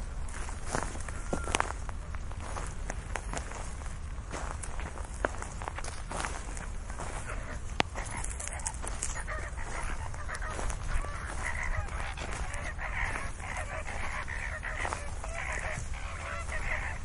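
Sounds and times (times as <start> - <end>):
flamingos honking: 0.0 - 17.0.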